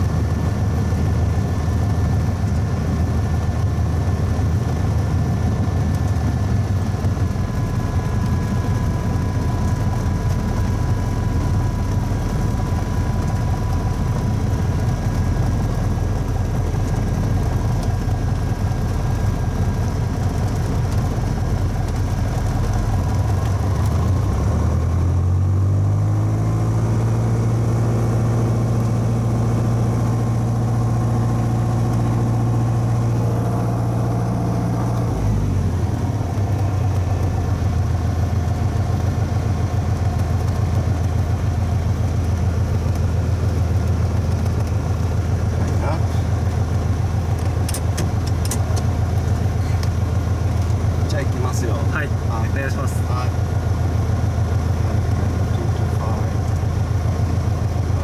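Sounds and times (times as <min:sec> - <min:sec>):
propeller plane engine: 0:00.0 - 0:58.0.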